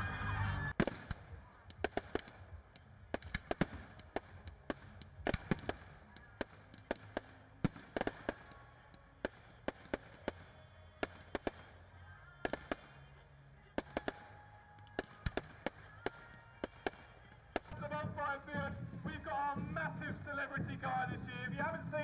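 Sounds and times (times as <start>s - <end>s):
fireworks bangs and crackles: 0.7s - 22.0s.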